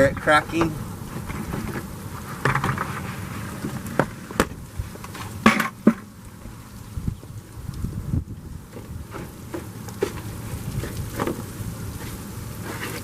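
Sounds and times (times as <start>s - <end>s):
mat crackling as it freezes: 1.0s - 5.5s, 6.2s - 13.0s.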